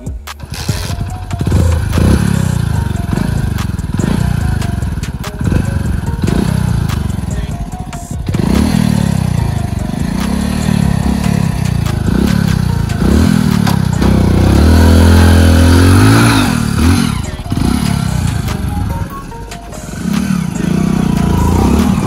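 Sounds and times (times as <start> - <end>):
motorcycle engine revving: 0.3 - 22.0.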